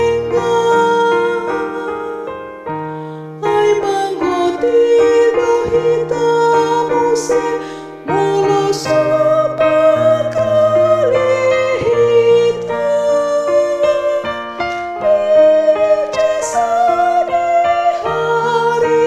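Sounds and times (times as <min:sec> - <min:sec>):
keyboard chords: 0:00.0 - 0:19.0
person singing melody: 0:00.0 - 0:19.0.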